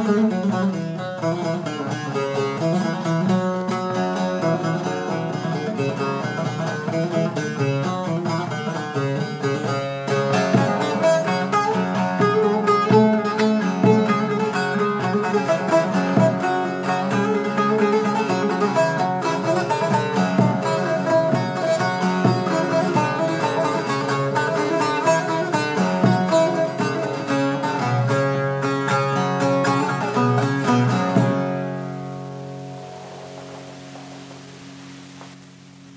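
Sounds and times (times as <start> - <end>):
plucked string instrumental music: 0.0 - 35.9.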